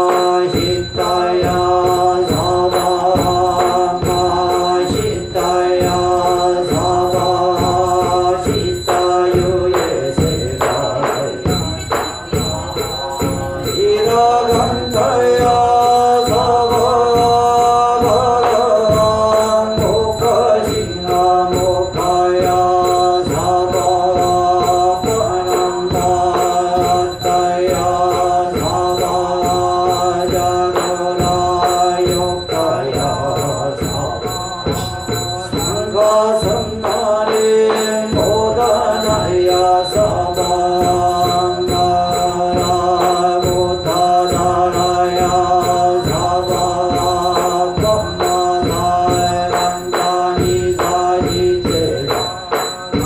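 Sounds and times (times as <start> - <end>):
monk and congregation chanting: 0.0 - 53.0
rapid sharp strikes: 0.0 - 53.0.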